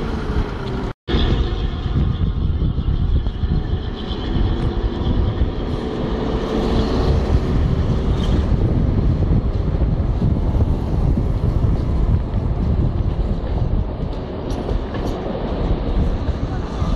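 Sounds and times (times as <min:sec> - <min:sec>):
street traffic: 0:00.0 - 0:16.9
wind buffeting microphone: 0:00.0 - 0:16.9.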